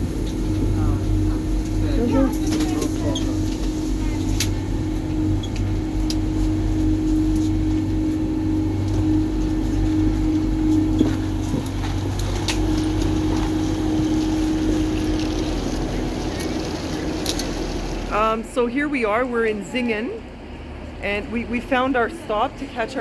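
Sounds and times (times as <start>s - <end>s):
train running hum and rumble: 0.0s - 23.0s.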